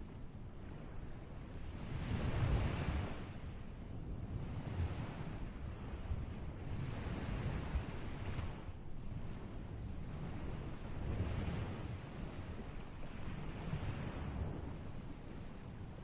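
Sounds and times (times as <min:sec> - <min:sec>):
ocean waves breaking on beach: 0:00.0 - 0:16.0
wind buffeting microphone: 0:00.0 - 0:16.0.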